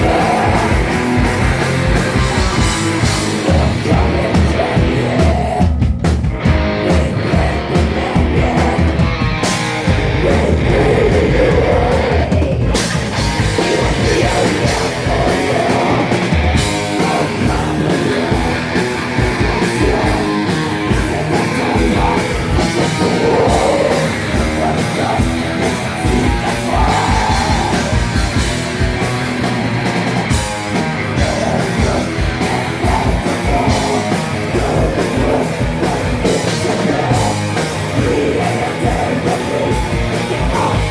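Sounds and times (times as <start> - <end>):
person shouting singing: 0.0 - 5.8, 6.4 - 40.9
drums: 0.0 - 40.9
guitars: 0.0 - 40.9.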